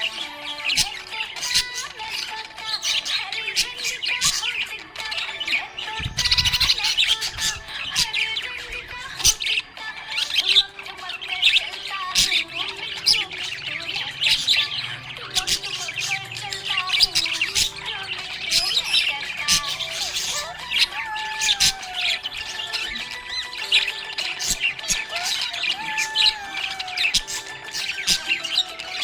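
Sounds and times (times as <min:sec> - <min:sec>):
budgerigars chirping and squawking: 0:00.0 - 0:29.0.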